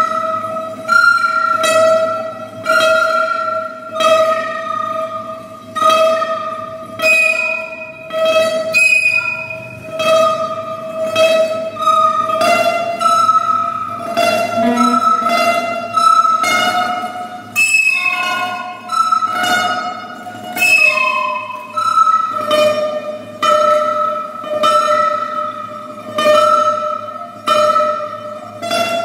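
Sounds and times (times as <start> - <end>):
wooden flute melody: 0.0 - 29.0.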